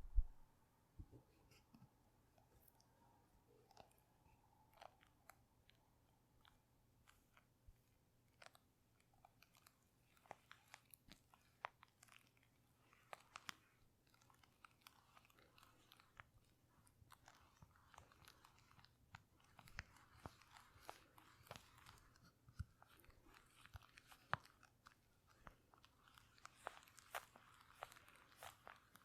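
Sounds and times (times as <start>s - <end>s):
soft crackly hiss: 2.4s - 29.0s
crisp clicks and crackles: 3.5s - 29.0s.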